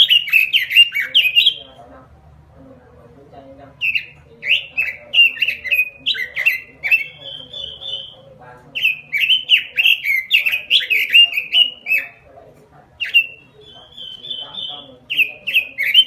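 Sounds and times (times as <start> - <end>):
bird singing whistled notes: 0.0 - 1.7, 3.8 - 12.2, 13.0 - 16.0.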